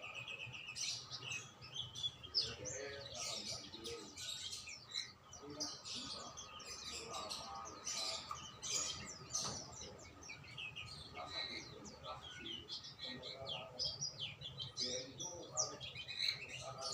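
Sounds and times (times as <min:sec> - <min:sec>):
songbirds chirping and singing: 0:00.0 - 0:16.9.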